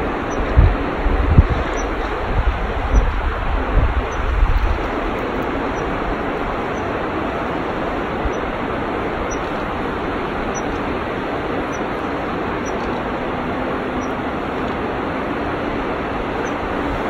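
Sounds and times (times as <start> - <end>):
mountain river rushing: 0.0 - 17.0.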